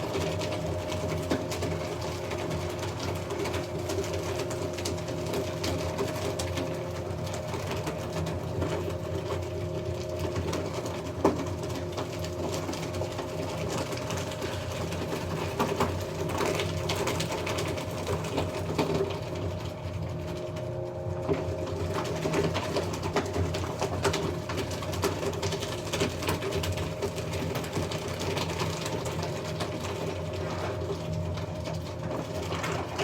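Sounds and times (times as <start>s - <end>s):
paper shredder crackling: 0.0s - 33.0s
paper shredder motor humming: 0.0s - 33.0s.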